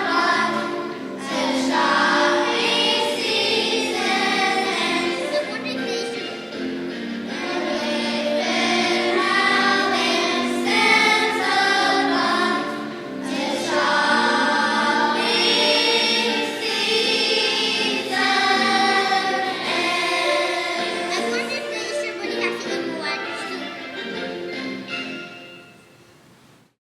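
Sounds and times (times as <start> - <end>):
children's choir singing: 0.0 - 25.3.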